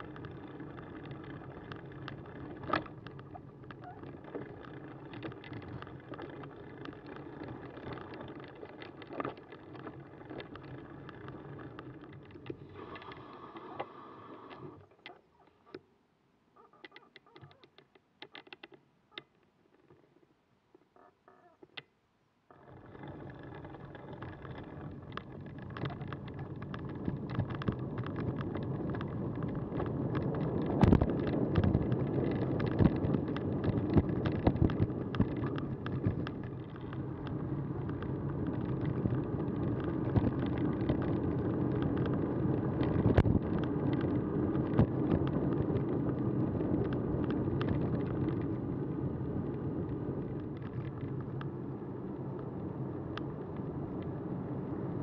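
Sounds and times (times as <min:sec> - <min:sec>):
bicycle clicks and rattles: 0:00.0 - 0:13.9, 0:16.7 - 0:20.0, 0:22.5 - 0:51.5
bicycle tyre and wind rumble: 0:00.0 - 0:14.9, 0:22.5 - 0:55.0.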